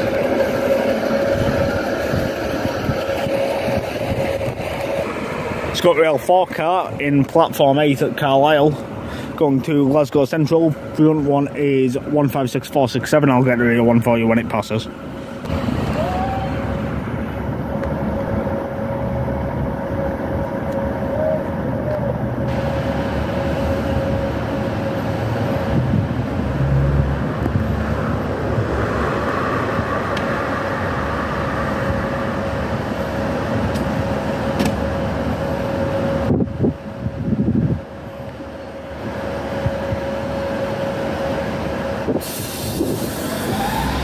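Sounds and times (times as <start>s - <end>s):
diesel train engines idling: 0.0s - 44.0s.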